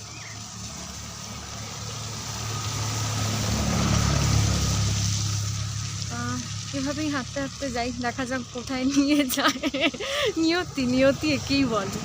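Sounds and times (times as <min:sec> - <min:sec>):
road noise: 0:00.0 - 0:12.0
vehicle engine approaching: 0:00.0 - 0:12.0.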